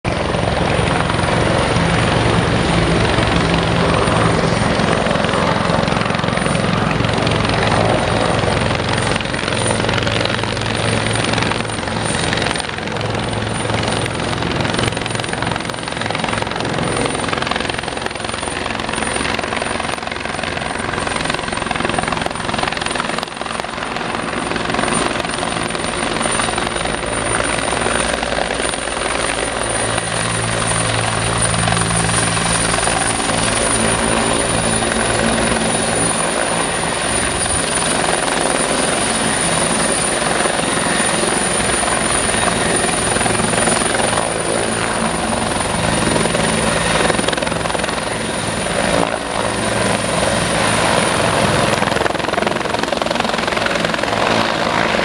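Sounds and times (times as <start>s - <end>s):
helicopter rotor beat: 0.0s - 55.0s
turbine engine whine: 0.1s - 55.0s.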